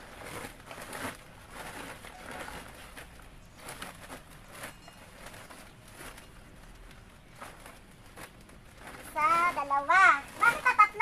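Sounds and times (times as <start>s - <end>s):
plastic sack rustling: 0.0s - 11.0s.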